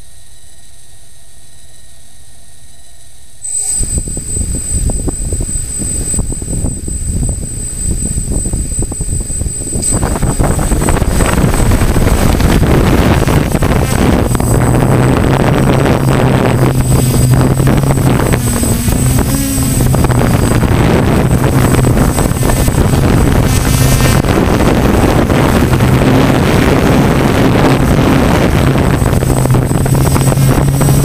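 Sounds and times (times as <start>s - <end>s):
drone motors whirring: 3.4s - 31.0s.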